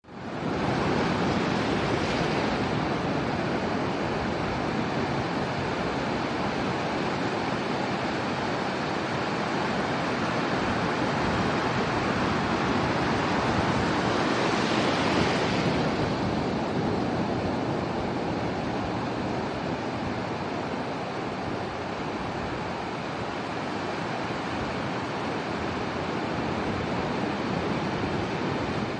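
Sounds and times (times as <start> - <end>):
waves breaking on beach: 0.1 - 16.3, 18.7 - 28.9.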